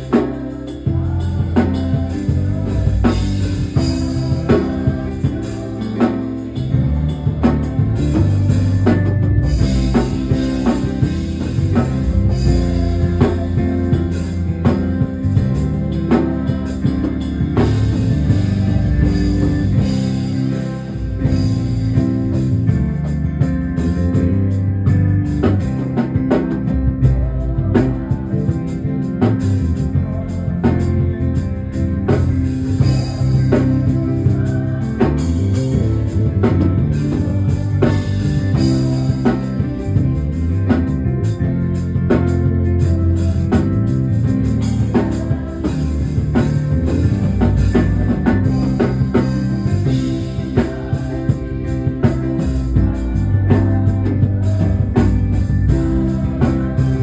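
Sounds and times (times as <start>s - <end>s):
church band music: 0.0s - 57.0s
heavy bass line: 0.0s - 57.0s.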